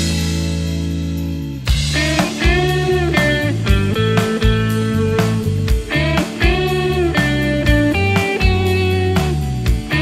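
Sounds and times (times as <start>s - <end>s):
bass guitar: 0.0s - 10.0s
drums: 0.0s - 10.0s
electric guitar solo: 1.9s - 10.0s.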